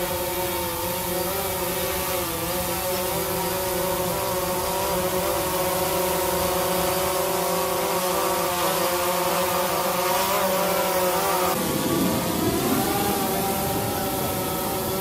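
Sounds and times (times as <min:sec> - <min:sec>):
drone propellers buzzing whine: 0:00.0 - 0:15.0.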